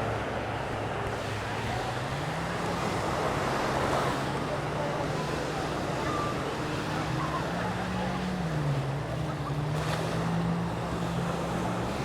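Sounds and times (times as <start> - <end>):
low engine hum: 0.0 - 12.0
surf: 0.0 - 12.0
wind: 0.0 - 12.0.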